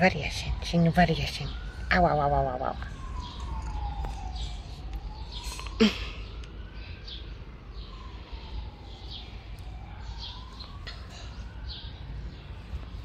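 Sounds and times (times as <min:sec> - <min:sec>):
birds chirping: 0:00.0 - 0:13.0
distant siren wailing: 0:00.0 - 0:13.0.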